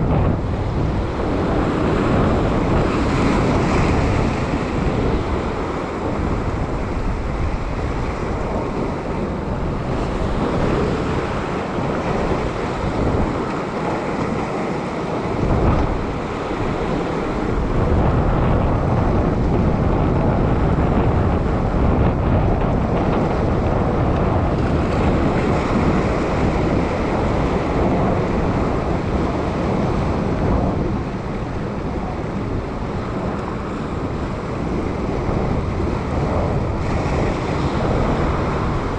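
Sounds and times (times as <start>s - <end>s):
sea swell washing over rocks: 0.0s - 38.9s
wind buffeting microphone: 0.0s - 38.9s.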